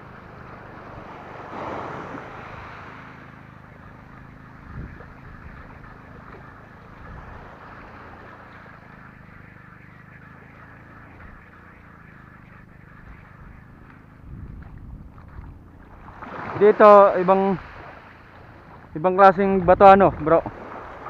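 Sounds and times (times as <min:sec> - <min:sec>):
wind rumble on microphone: 0:00.0 - 0:09.8, 0:12.6 - 0:21.0
small waves lapping on shore: 0:00.0 - 0:21.0.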